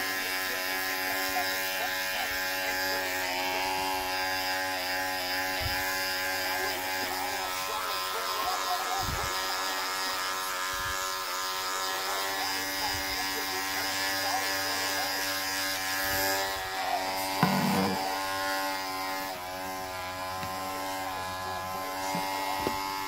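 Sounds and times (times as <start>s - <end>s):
electric hair clippers buzzing: 0.0s - 23.0s.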